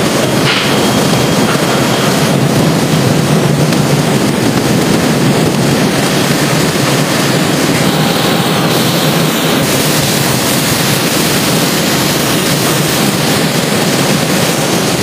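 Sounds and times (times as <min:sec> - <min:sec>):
churning bubbling water: 0:00.0 - 0:15.0
running machinery: 0:00.0 - 0:15.0.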